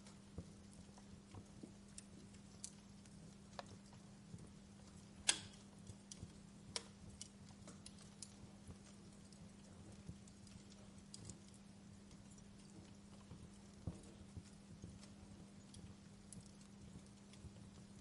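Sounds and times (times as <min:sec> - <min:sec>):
faint low hum: 0:00.0 - 0:18.0
wood fire crackling: 0:00.0 - 0:18.0.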